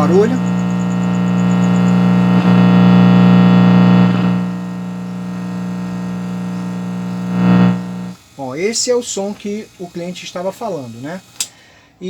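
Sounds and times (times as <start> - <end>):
distorted buzzing hum from speaker: 0.0 - 11.3.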